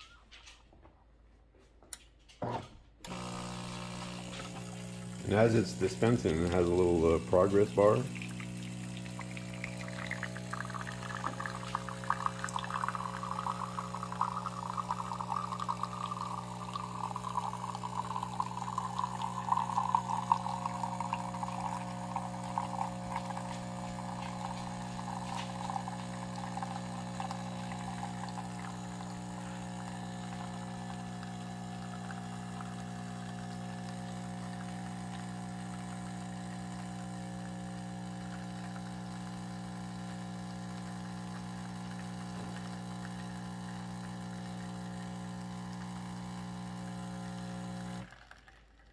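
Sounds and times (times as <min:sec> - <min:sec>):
coffee machine pump hum: 0:03.0 - 0:48.6
coffee trickling into cup: 0:03.1 - 0:48.9.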